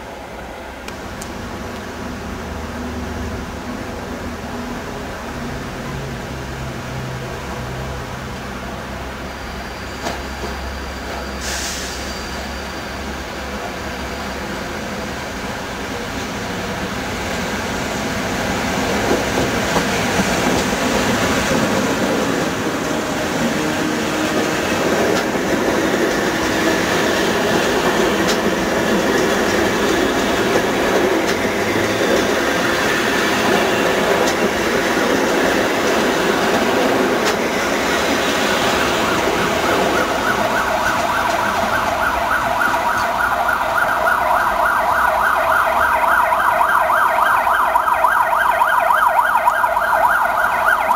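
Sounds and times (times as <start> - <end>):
train wheels rumbling over rails: 0.3 - 44.2.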